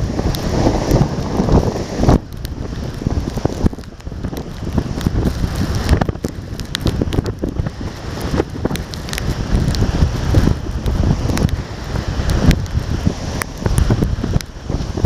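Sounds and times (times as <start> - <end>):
gusty wind buffeting microphone: 0.0 - 15.0
ticks of falling sea spray: 0.0 - 15.0.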